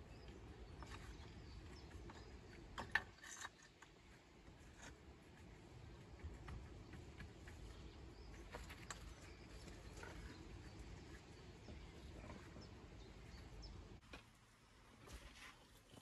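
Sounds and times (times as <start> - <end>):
faint low outdoor rumble: 0.0 - 16.0.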